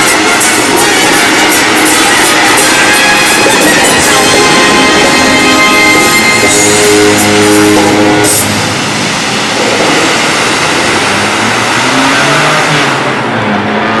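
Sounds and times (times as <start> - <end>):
fountain water rushing: 0.0 - 13.8
fountain show music: 0.0 - 14.0.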